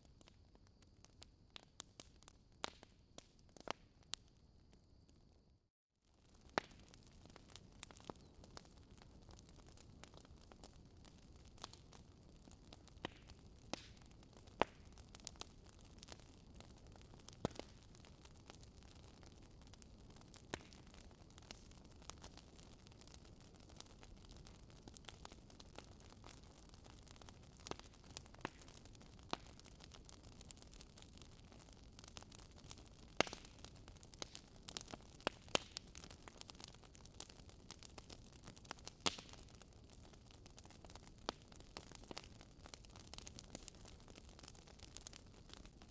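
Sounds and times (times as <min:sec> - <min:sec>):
wood fire crackling: 0:00.0 - 0:04.4, 0:06.1 - 0:45.9.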